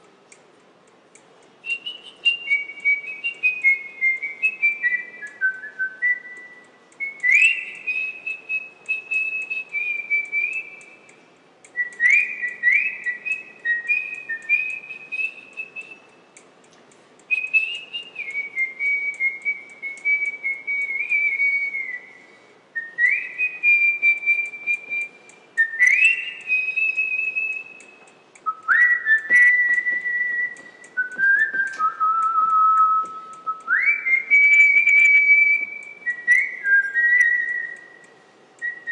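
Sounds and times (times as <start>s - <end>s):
faint light clicks: 0.0s - 22.4s, 23.0s - 38.9s
person whistling a tune: 1.6s - 11.1s, 11.7s - 16.1s, 17.3s - 38.9s.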